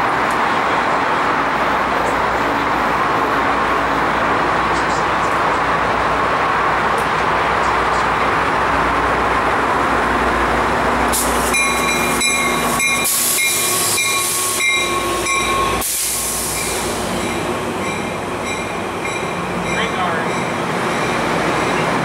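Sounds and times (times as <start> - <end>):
diesel locomotive rumbling: 0.0 - 22.0
train coaches clicking past: 0.0 - 22.0.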